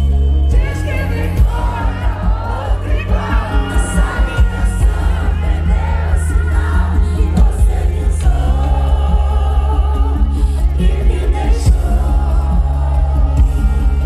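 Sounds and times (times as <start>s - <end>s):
heavy bass beat: 0.0s - 14.0s
person singing: 0.0s - 14.0s.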